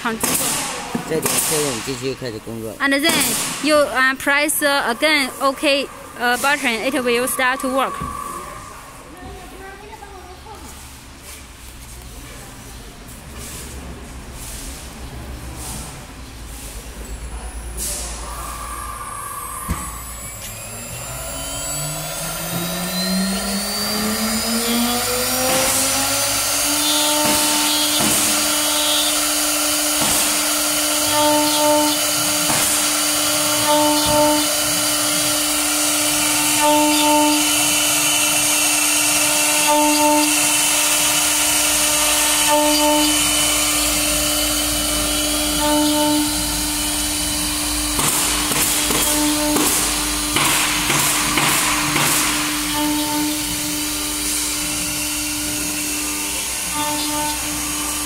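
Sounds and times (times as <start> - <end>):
router spindle whine: 1.1 - 9.6, 17.8 - 58.0.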